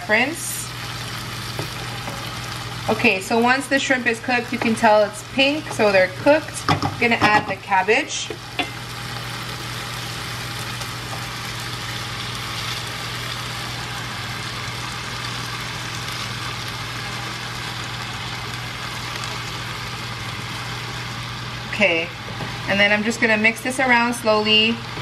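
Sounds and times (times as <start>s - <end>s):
food frying in a pan: 0.0s - 25.0s
steady low hum: 0.0s - 25.0s.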